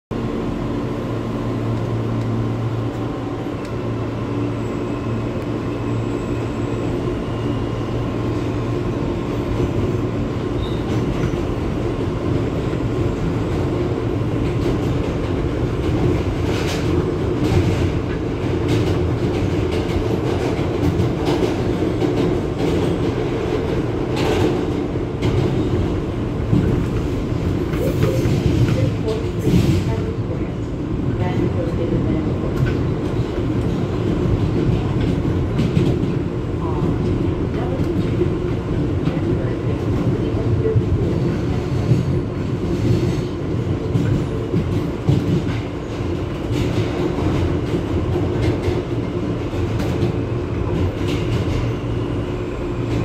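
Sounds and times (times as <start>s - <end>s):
train low rumble and motor hum: 0.1s - 53.0s.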